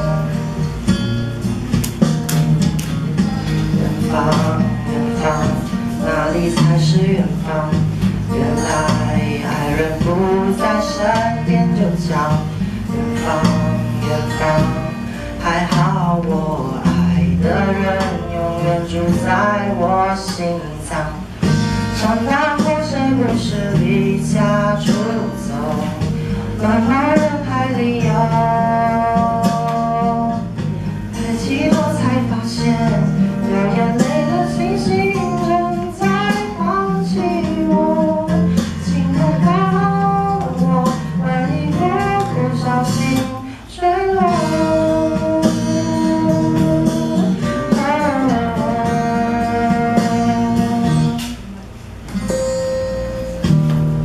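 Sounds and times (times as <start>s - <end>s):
pop song with guitar and bass: 0.0s - 54.0s.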